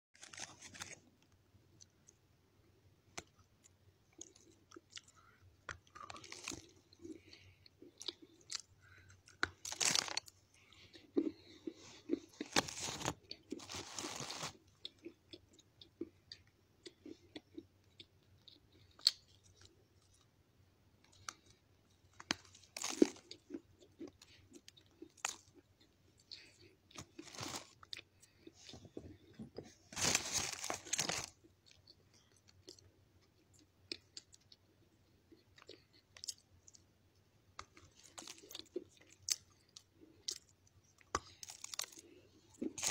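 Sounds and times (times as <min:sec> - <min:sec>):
person chewing and crunching stone: 0:03.2 - 0:20.3, 0:21.0 - 0:29.4, 0:30.0 - 0:36.9, 0:37.6 - 0:42.9.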